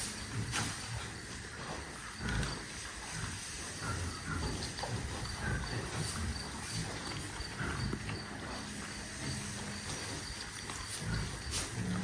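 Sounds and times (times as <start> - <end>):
low rough farm-animal noises: 0.0 - 12.0.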